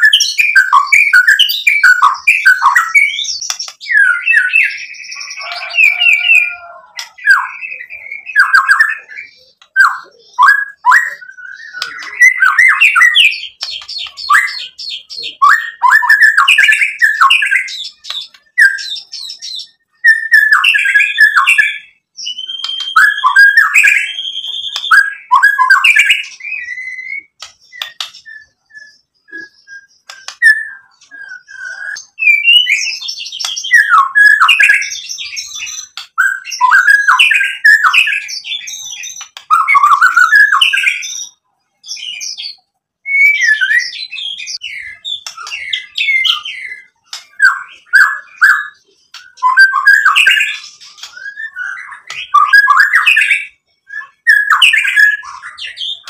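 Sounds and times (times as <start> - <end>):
bird singing whistles and trills: 0.0 - 56.0.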